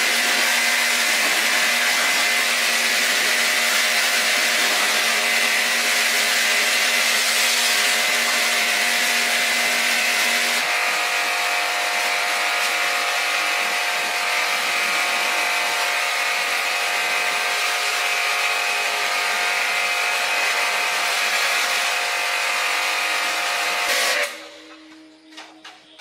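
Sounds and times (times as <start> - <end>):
power tool motor whine: 0.0 - 25.3.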